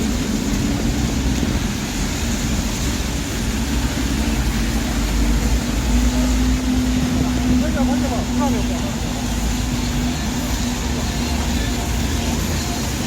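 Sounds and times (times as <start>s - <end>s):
engine hum: 0.0s - 13.0s
traffic rumble: 0.0s - 13.0s
tyre hiss on wet road: 0.0s - 13.0s.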